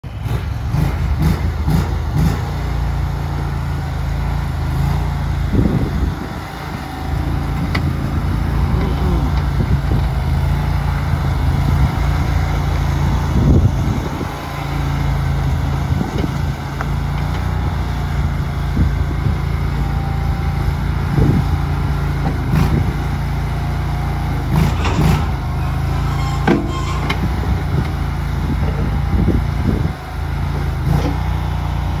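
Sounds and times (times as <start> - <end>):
skid steer engine running: 0.0 - 32.0.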